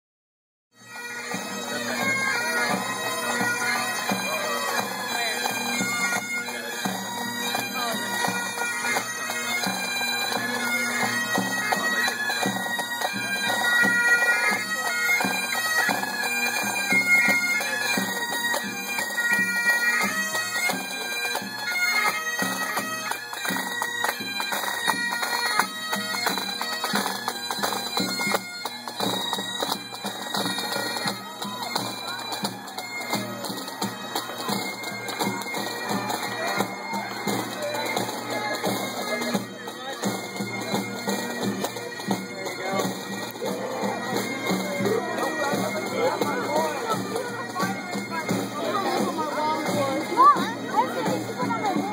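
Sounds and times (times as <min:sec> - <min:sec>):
bagpipe band playing marching tune: 0:00.8 - 0:51.9.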